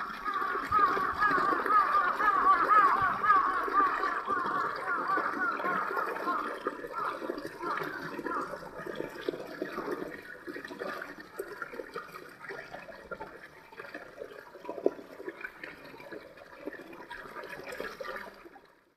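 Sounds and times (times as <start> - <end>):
stream babbling over stones: 0.0 - 18.2.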